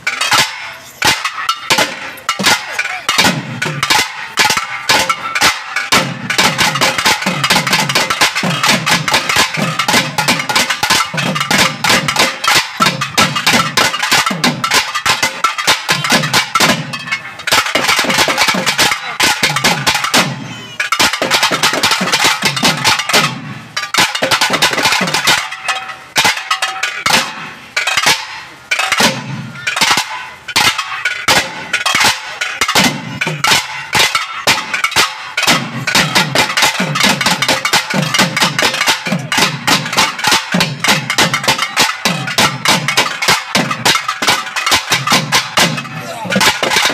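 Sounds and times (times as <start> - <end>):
rapid drumming: 0.0 - 46.9.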